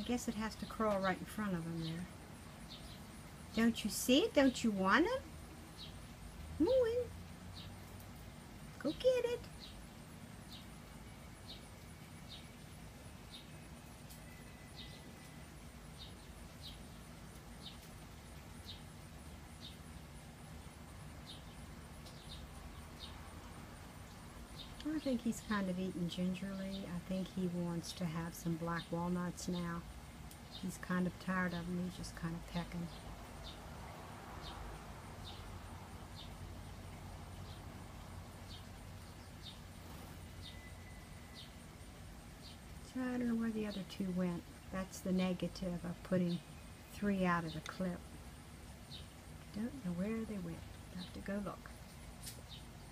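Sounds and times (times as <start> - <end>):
low background hum: 0.0 - 52.9.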